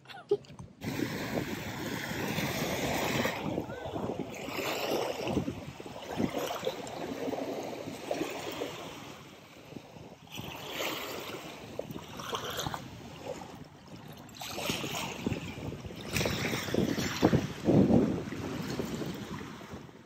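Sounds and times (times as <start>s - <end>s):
small waves lapping on shore: 0.3s - 20.0s.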